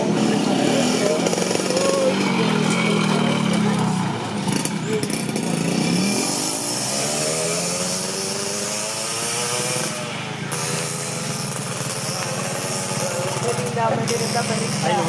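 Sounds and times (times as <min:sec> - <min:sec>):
racing motorcycle engine revving: 0:00.0 - 0:15.0.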